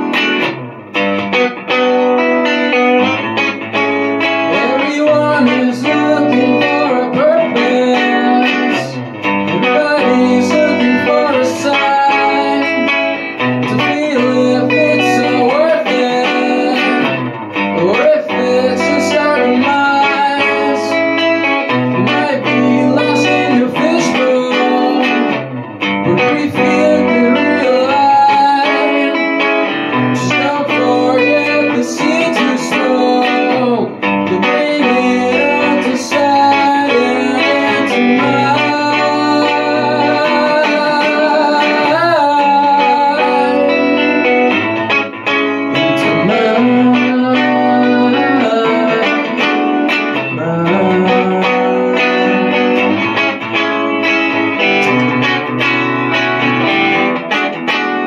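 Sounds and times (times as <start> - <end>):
man singing into a microphone: 0.0 - 0.4, 1.8 - 58.0
electric guitar: 0.0 - 58.0.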